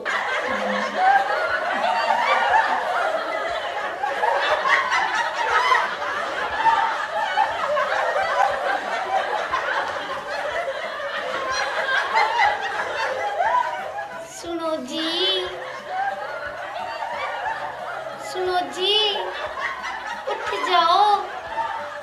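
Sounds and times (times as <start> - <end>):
canned laughter: 0.0 - 22.0.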